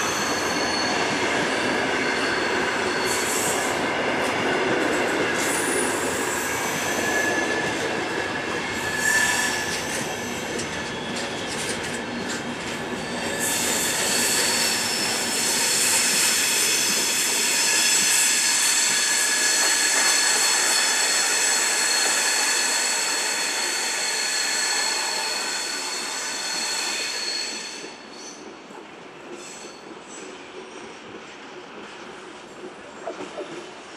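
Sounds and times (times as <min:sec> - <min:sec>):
train wheels squealing: 0:00.0 - 0:32.0.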